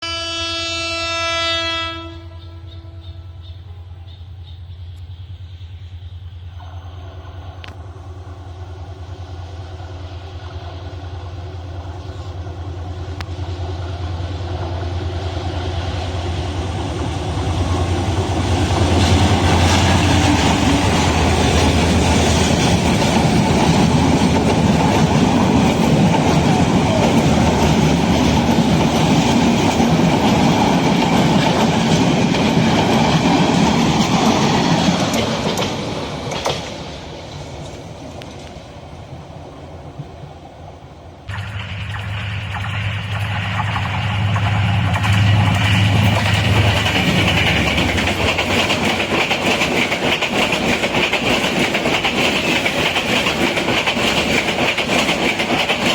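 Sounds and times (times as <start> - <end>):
train engine hum: 0.0 - 55.9
train wheels on rails: 1.8 - 55.9.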